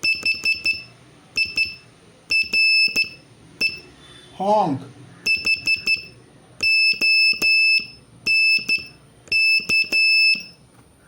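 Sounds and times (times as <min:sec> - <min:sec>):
morse code beeps: 0:00.0 - 0:04.0, 0:05.2 - 0:10.6.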